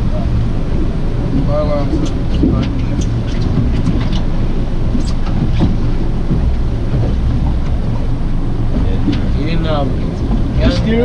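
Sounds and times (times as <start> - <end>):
boat engine running: 0.0 - 11.0
wind and sea noise: 0.0 - 11.0.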